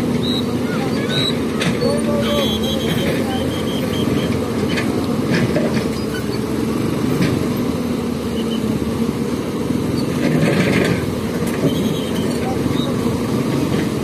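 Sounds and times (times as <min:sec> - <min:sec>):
motorcycle engines rumbling: 0:00.0 - 0:14.0.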